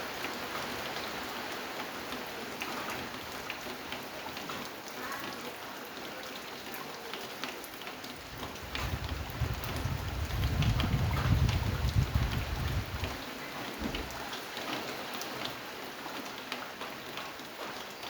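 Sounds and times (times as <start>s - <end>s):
rain drops ticking on surface: 0.0s - 18.0s.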